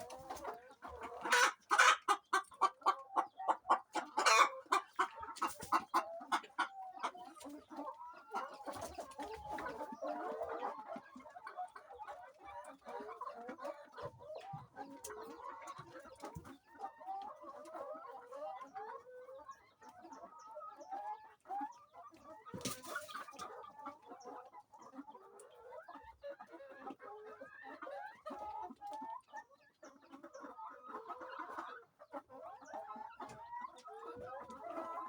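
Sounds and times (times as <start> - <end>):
hens clucking: 0.0 - 35.0.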